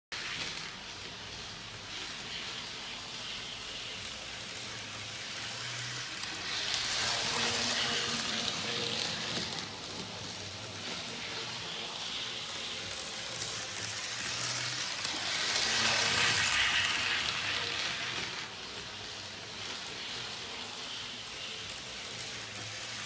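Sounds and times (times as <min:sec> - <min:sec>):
model train wheels hissing on rails: 0:00.2 - 0:23.0.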